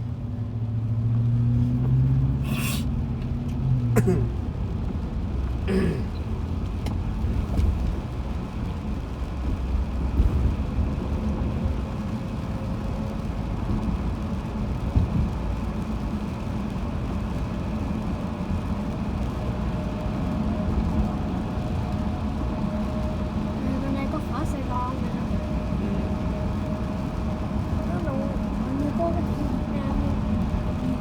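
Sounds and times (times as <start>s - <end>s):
tyre and engine rumble: 0.0s - 31.0s.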